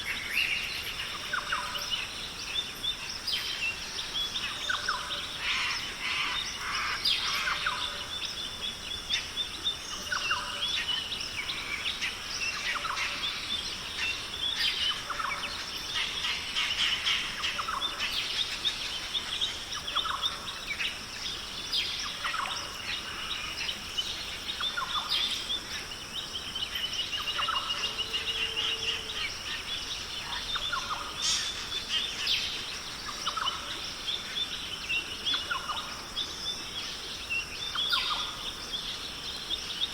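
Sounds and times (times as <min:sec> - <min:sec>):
birds calling and chirping: 0:00.0 - 0:39.9
high insect drone: 0:00.0 - 0:39.9.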